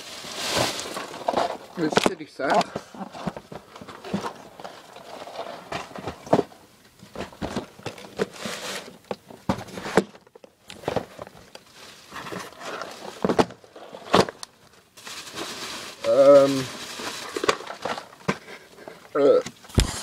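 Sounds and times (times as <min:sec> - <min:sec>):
cardboard rustling: 0:00.0 - 0:20.0.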